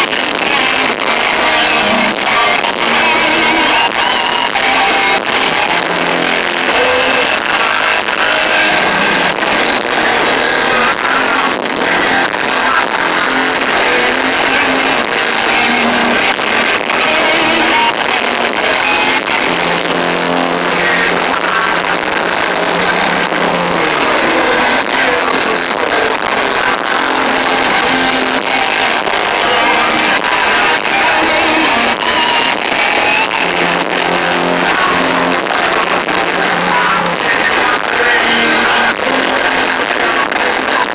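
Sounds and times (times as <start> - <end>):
heavy rock band playing live: 0.0 - 40.9.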